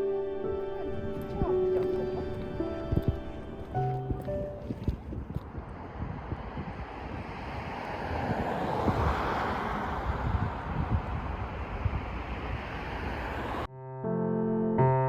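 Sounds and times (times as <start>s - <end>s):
wind rushing over microphone: 0.0s - 13.7s.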